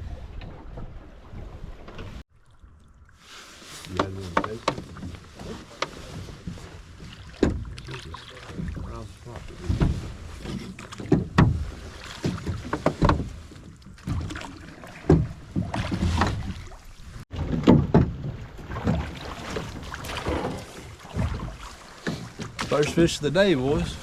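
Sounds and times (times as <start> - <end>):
river water noise: 0.0 - 24.0
boat knocks and bumps: 3.9 - 24.0.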